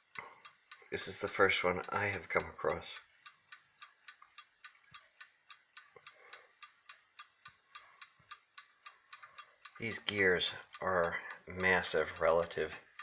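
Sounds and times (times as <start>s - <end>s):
mantel clock ticking: 0.0s - 13.0s.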